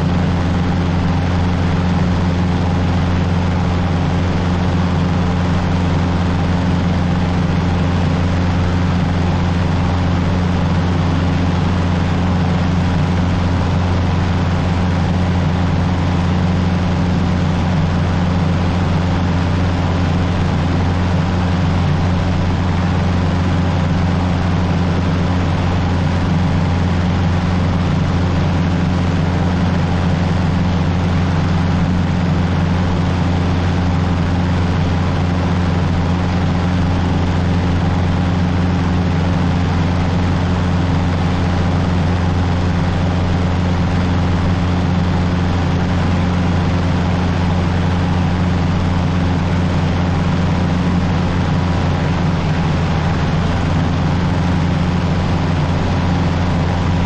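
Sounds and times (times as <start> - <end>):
airplane engine droning in cabin: 0.0 - 57.0.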